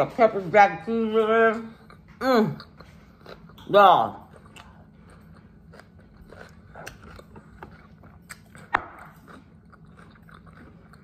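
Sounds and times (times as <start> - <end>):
person chewing crunchy food: 1.6 - 11.0.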